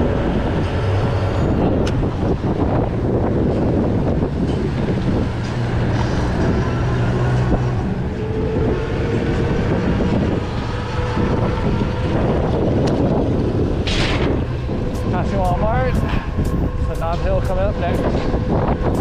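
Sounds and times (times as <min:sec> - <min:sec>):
bicycle tyre rumble: 0:00.0 - 0:19.0
wind rushing over microphone: 0:00.0 - 0:19.0.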